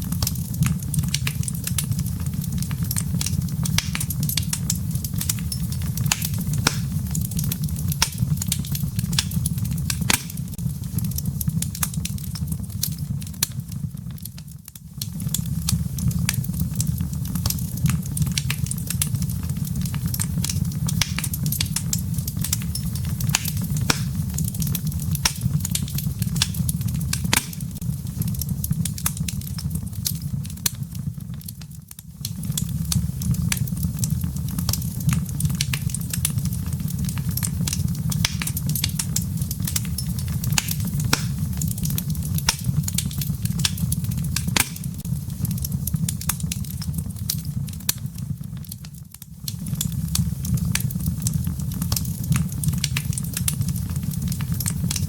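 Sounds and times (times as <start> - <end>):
fire pops and snaps: 0.0 - 55.0
low fire rumble: 0.0 - 55.0
wood fire crackling: 0.0 - 55.0.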